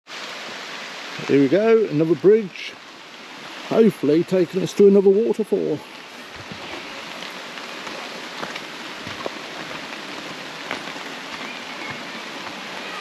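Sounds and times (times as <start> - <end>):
water hissing: 0.1 - 13.0.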